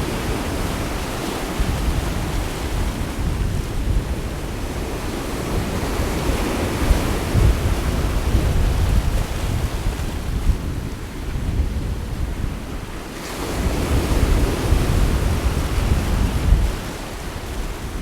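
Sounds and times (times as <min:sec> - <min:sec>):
sea waves washing on shore: 0:00.0 - 0:18.0
wind buffeting microphone: 0:00.0 - 0:18.0.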